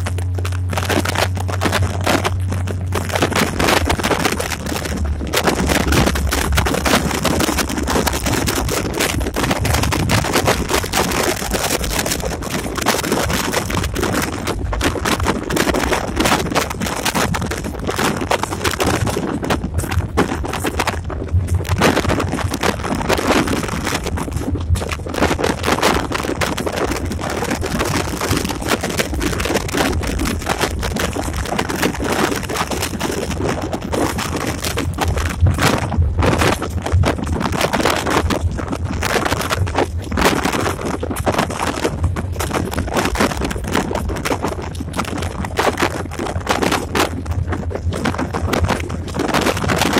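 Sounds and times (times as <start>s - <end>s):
cab rattling and knocking: 0.0s - 49.9s
diesel engine drone: 0.0s - 49.9s
wind buffeting microphone: 0.0s - 49.9s.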